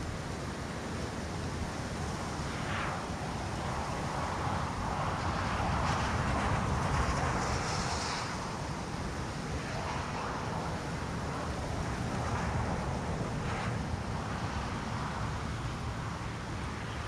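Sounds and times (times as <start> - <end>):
wind buffeting microphone: 1.4 - 17.0.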